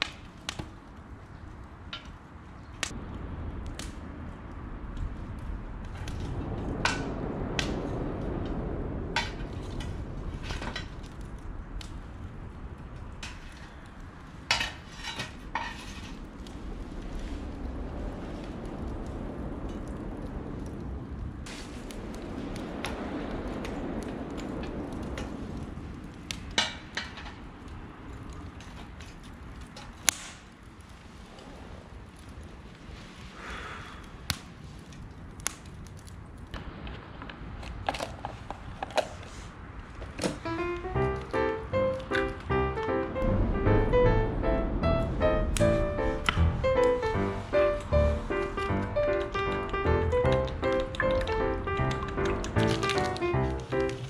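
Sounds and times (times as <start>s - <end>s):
steady low background noise: 0.0s - 54.0s.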